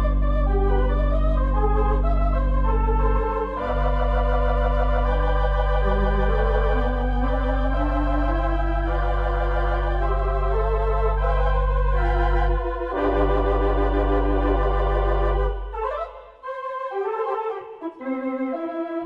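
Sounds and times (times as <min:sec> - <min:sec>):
organ music: 0:00.0 - 0:19.0.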